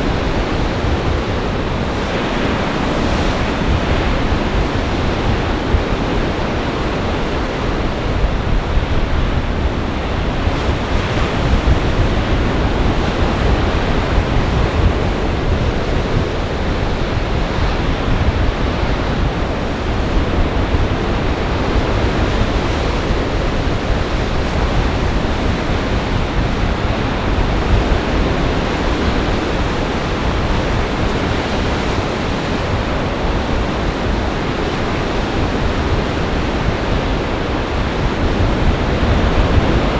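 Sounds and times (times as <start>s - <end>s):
storm waves breaking: 0.0s - 39.9s
wind rumbling on microphone: 0.0s - 39.9s.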